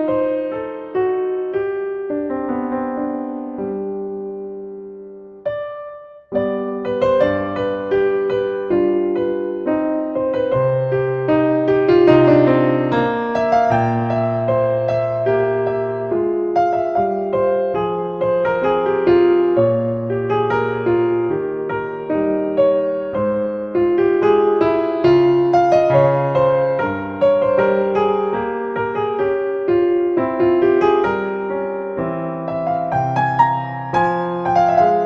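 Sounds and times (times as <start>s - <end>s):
solo piano music: 0.0s - 35.0s.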